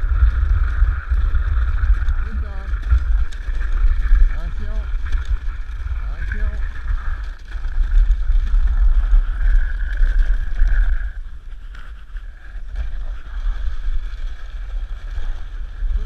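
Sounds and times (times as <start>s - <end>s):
sled runners scraping on snow: 0.0s - 16.0s
wind buffeting microphone: 0.0s - 16.0s.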